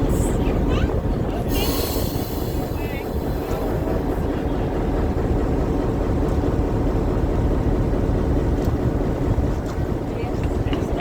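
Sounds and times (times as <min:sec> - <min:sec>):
low rumble of moving vehicle: 0:00.0 - 0:11.0.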